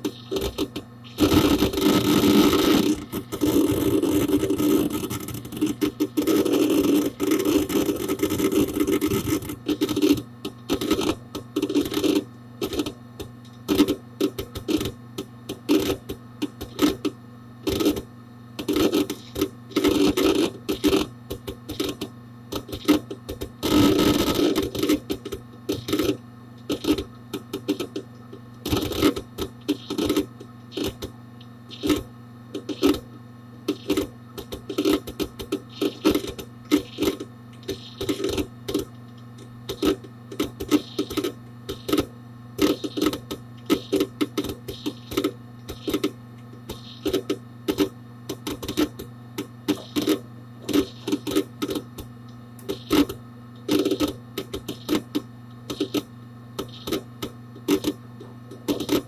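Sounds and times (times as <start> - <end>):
computer low hum: 0.0 - 59.0
hard disk clicking and chattering: 0.0 - 59.0.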